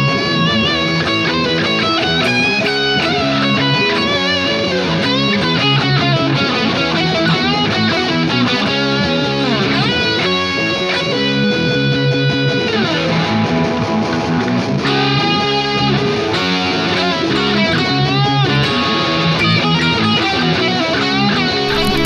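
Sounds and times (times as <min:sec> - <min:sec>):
electric guitar with string bends: 0:00.0 - 0:22.0.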